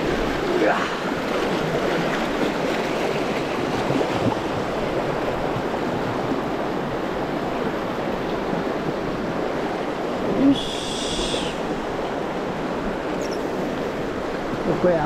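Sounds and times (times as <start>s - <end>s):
river rapid rushing over rocks: 0.0s - 15.0s.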